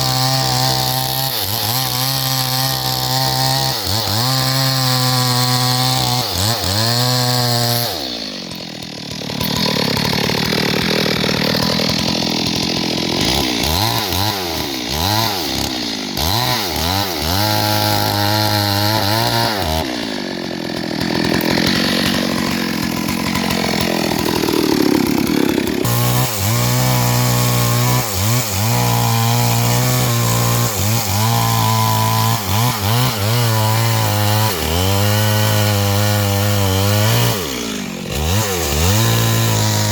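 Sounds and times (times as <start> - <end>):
chainsaw cutting and revving: 0.0 - 39.9.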